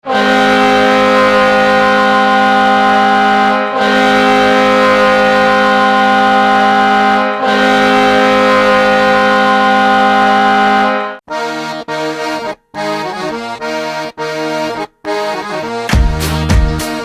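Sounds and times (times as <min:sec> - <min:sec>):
goal horn blaring chord: 0:00.0 - 0:17.0.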